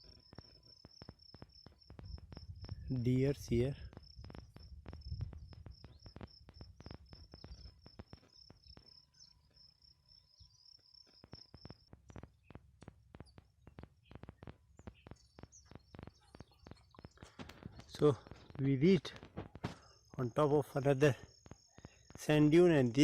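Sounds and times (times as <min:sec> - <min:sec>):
footsteps on sand: 0:00.0 - 0:20.8
insect chirping: 0:00.0 - 0:23.0.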